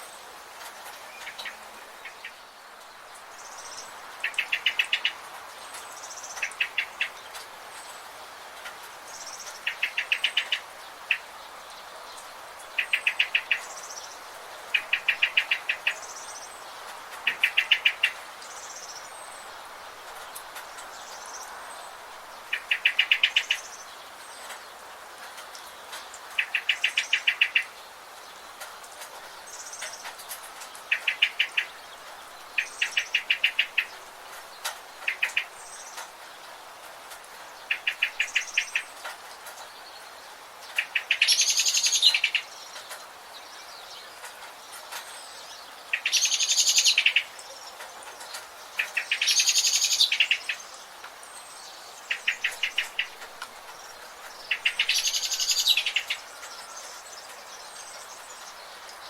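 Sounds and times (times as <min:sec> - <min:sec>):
background hiss: 0:00.0 - 0:59.0
longer dense bird calls: 0:00.0 - 0:59.0.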